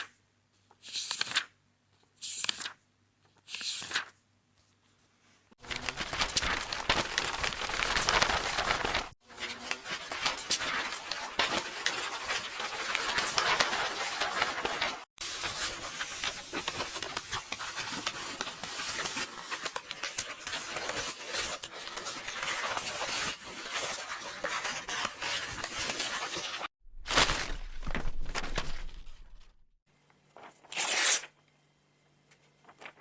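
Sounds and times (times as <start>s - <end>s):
book pages turning: 0.6s - 29.5s, 32.4s - 33.0s
paper rustling: 2.4s - 29.6s, 32.4s - 33.0s.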